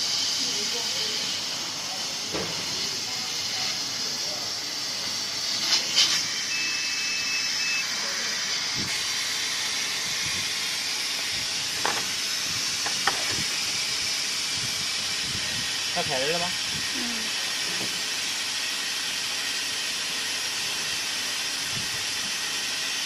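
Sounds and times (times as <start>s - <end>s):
machine air system hissing: 0.0s - 23.0s.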